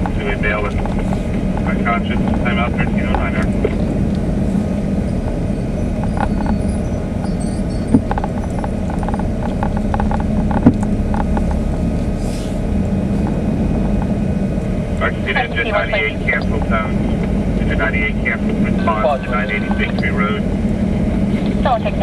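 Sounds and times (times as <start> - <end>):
car road and engine noise: 0.0 - 22.0
low hum: 0.0 - 22.0.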